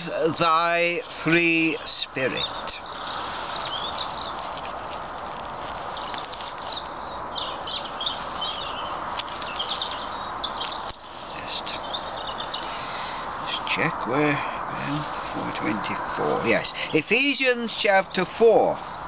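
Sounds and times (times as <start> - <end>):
rushing outdoor noise: 0.0 - 19.0
small birds chirping: 0.0 - 19.0.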